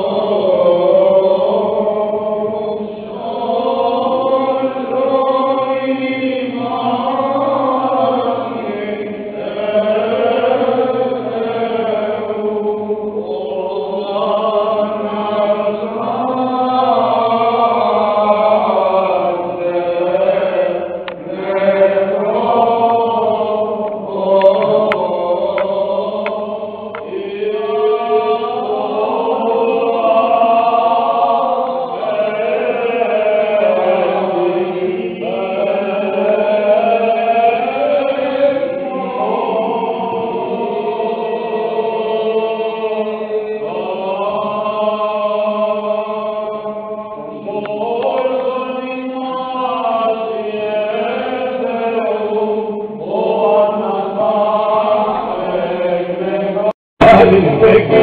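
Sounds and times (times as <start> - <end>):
men chanting: 0.0 - 58.0.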